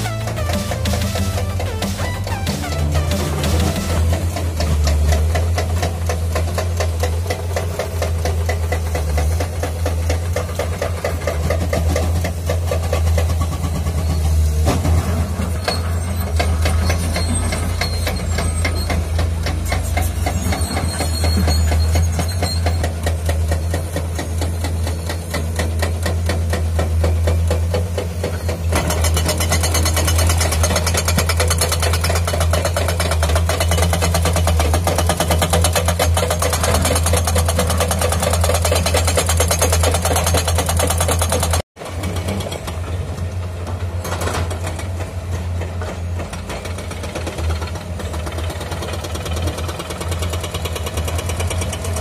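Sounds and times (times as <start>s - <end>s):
hydraulic breaker hammering rock: 0.0s - 43.0s, 43.6s - 52.0s
diesel engines running: 0.0s - 52.0s.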